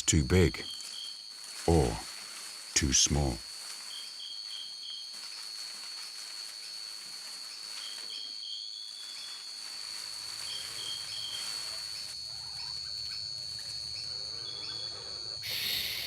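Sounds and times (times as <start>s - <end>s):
insect chirps: 0.1s - 16.0s
high-pitched insect trill: 0.6s - 2.7s, 3.4s - 16.0s.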